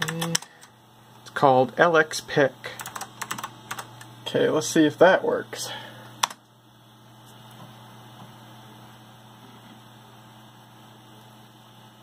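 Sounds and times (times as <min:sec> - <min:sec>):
faint computer hum: 0:00.0 - 0:12.0.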